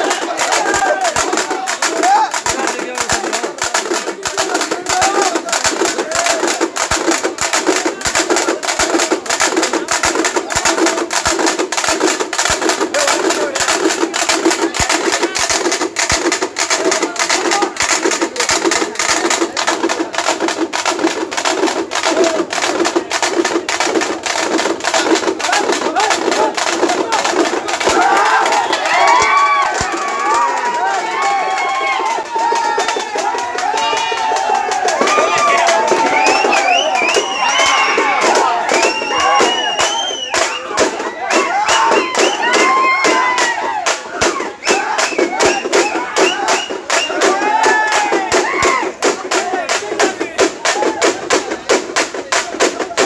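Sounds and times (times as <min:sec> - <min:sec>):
frame drums beaten fast: 0:00.0 - 0:53.0.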